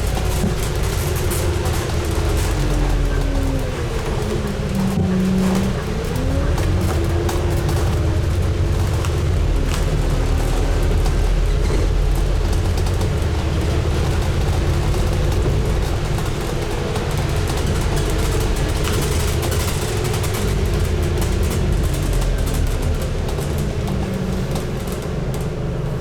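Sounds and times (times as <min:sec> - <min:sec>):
bus diesel engine running: 0:00.0 - 0:26.0
road and body noise: 0:00.0 - 0:26.0.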